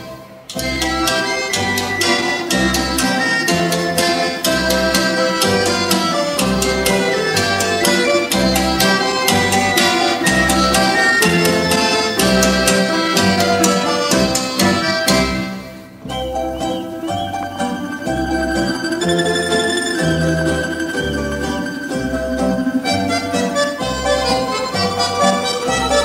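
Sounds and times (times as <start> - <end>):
folk dance music with bowed strings: 0.0 - 26.0.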